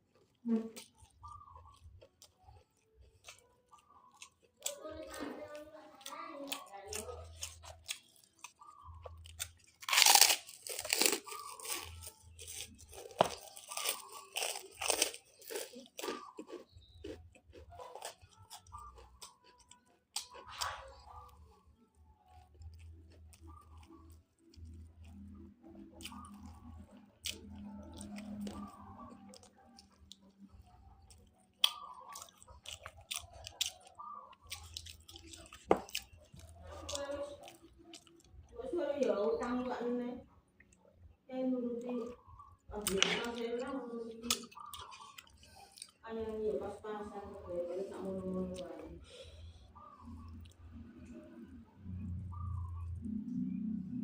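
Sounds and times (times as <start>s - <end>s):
person chewing and crunching food: 0.0s - 38.6s, 41.8s - 54.0s.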